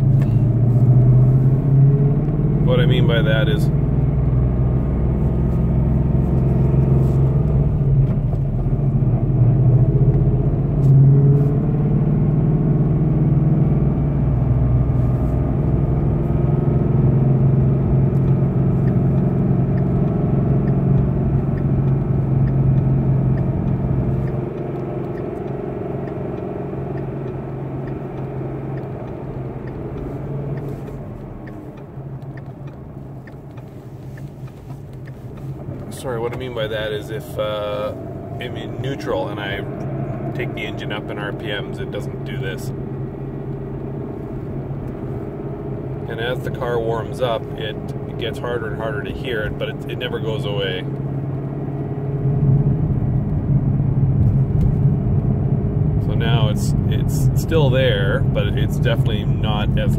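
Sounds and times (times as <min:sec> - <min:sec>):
car engine droning from inside: 0:00.0 - 0:59.9.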